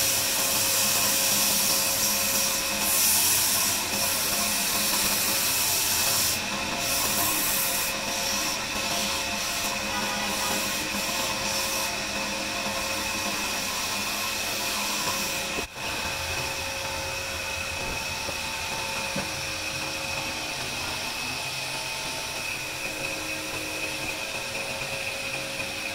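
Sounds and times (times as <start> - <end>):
lathe motor high whine: 0.0 - 25.9.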